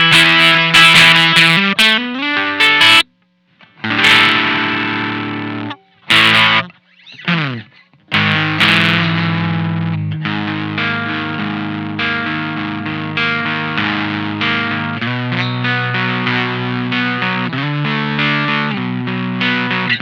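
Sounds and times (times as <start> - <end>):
fuzz electric guitar riffs: 0.0 - 20.0.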